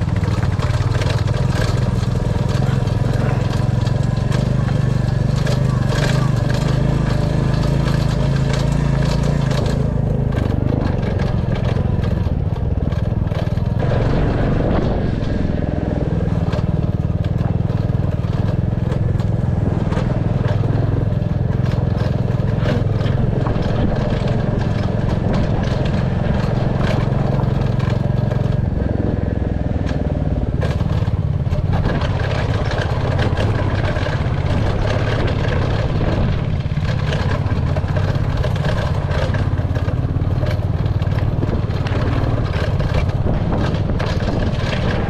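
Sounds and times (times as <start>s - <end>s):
clicks and rattles on rough road: 0.0s - 45.0s
motorcycle engine running: 0.0s - 45.0s.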